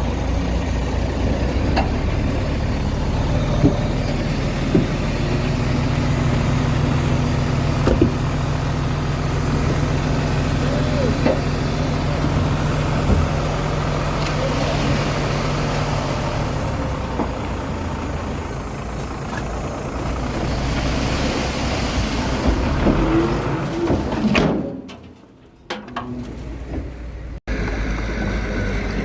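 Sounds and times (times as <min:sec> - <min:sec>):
bulldozer diesel engine: 0:00.0 - 0:29.0.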